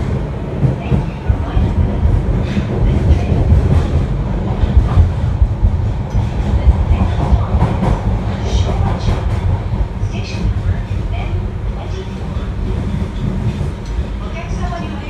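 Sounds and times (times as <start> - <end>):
subway train wheels rumbling: 0.0 - 15.0.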